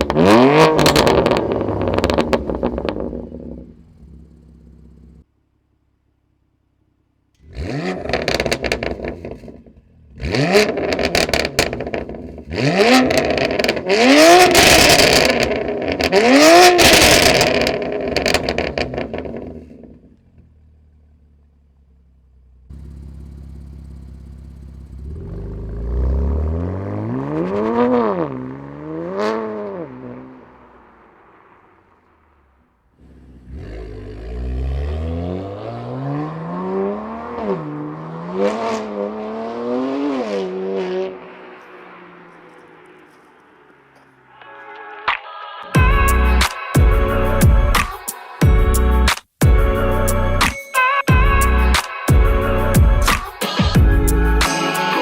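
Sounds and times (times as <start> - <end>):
car engine revving: 0.0 - 5.4, 7.2 - 45.2, 45.8 - 50.5, 51.2 - 55.0.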